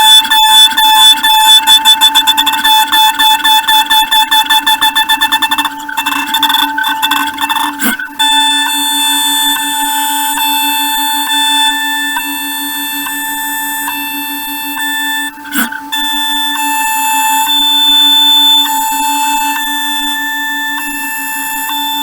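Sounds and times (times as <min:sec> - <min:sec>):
milling machine whine: 0:00.0 - 0:22.0.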